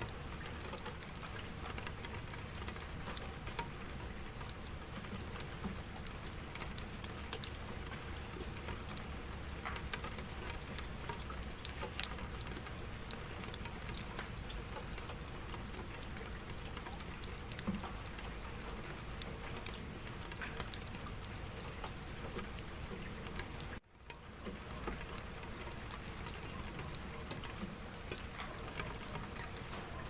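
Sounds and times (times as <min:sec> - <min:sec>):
raindrops striking close by: 0:00.0 - 0:30.0
steady rain falling: 0:00.0 - 0:30.0.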